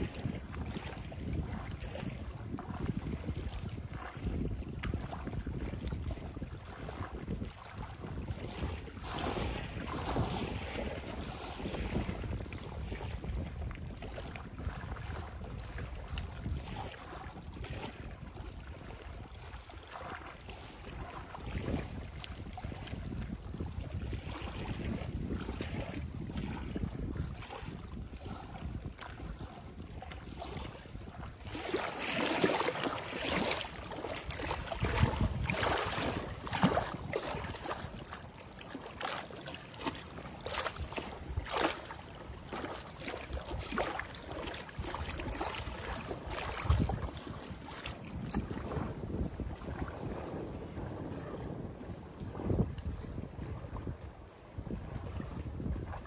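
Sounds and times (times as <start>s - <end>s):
water lapping against shore: 0.0s - 56.0s
wind rumbling on microphone: 0.0s - 56.0s.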